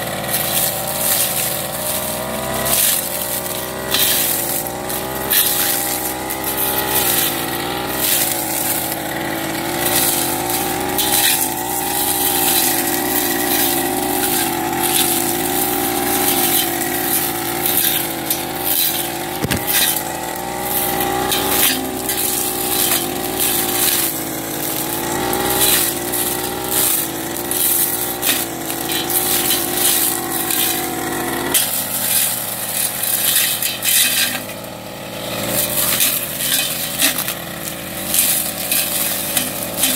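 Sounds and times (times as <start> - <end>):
brush cutter engine running: 0.0 - 39.9
cutting head swishing through grass: 0.2 - 34.6, 35.5 - 39.9.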